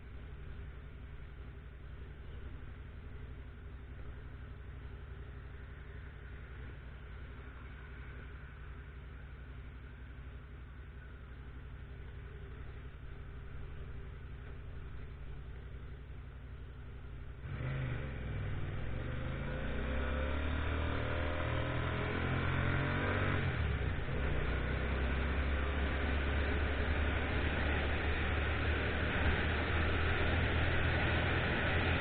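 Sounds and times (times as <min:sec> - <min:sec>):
motorcycle engine: 0:00.0 - 0:32.0.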